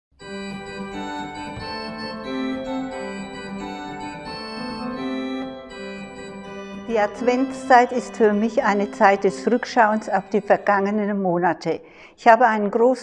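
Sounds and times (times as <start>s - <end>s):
organ music: 0.2s - 11.4s.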